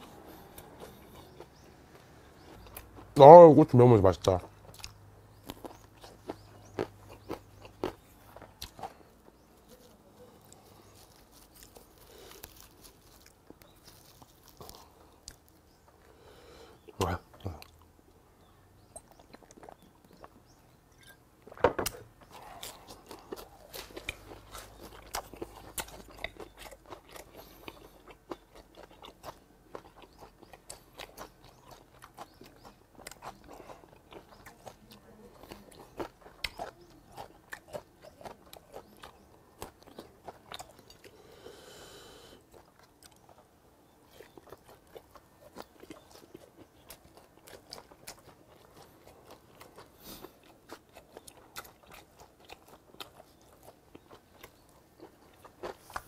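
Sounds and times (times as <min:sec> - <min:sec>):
wet crunchy chewing: 0:00.0 - 0:03.2, 0:04.2 - 0:17.9, 0:18.9 - 0:21.2, 0:21.8 - 0:56.0.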